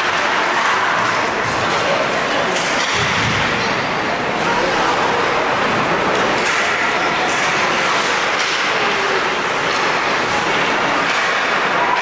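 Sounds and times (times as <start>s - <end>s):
ice rink crowd din: 0.0s - 12.0s.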